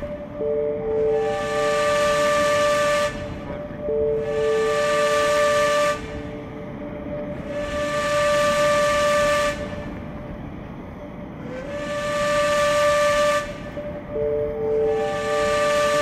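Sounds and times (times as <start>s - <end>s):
lower horn note: 0.0s - 10.0s, 11.4s - 16.0s
pitched horn blasts: 0.0s - 10.0s, 11.4s - 16.0s.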